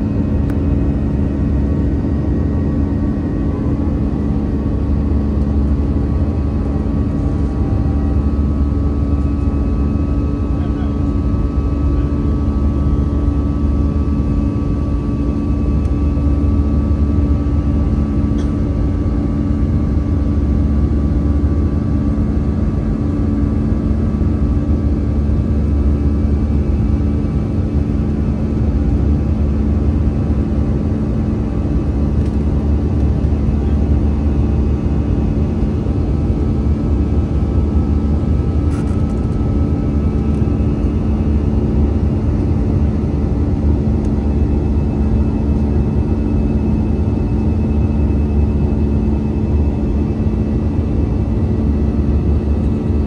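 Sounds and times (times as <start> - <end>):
jet engine drone: 0.0 - 53.0.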